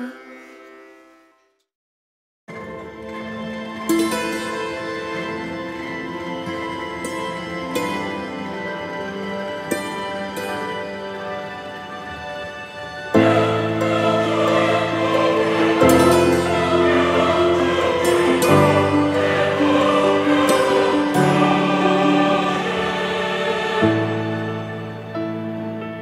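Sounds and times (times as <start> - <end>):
wordless choir over sustained chords: 2.6 - 26.0.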